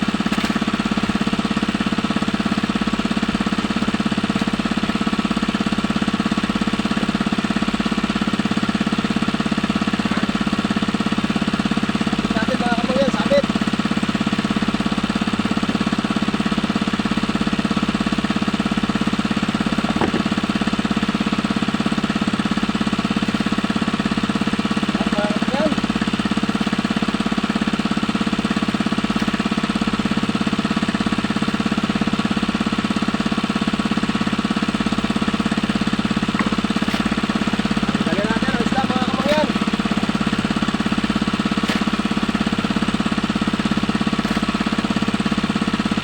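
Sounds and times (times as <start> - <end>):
small engine running: 0.0 - 46.0.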